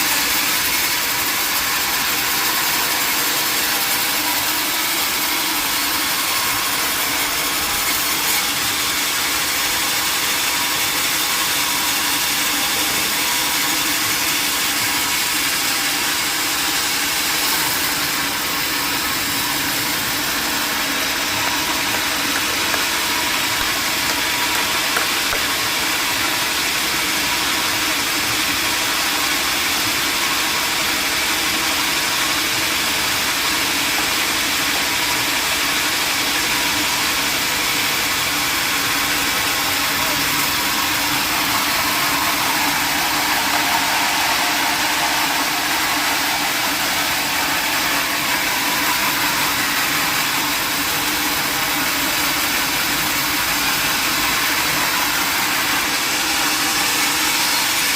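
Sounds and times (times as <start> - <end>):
sawmill machinery drone: 0.0 - 57.9.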